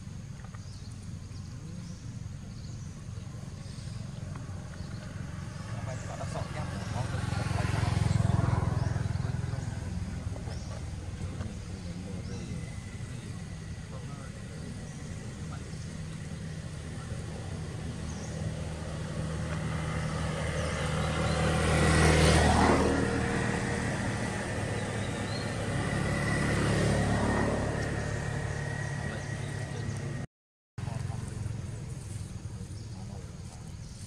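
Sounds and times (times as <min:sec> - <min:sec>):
motor vehicles passing by: 0:00.0 - 0:34.0.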